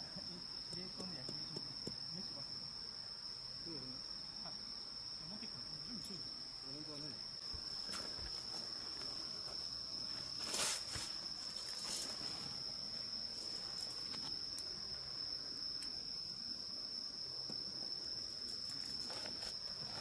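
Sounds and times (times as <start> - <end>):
insect trilling: 0.0 - 20.0.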